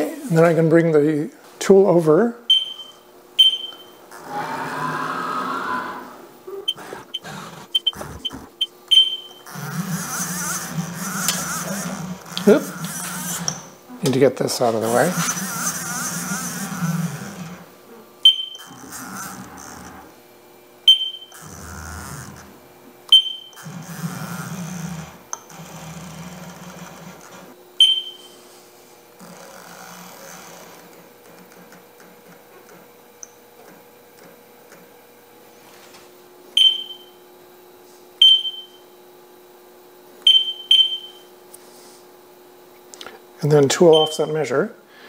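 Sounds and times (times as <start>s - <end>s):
machine humming: 2.1s - 45.0s.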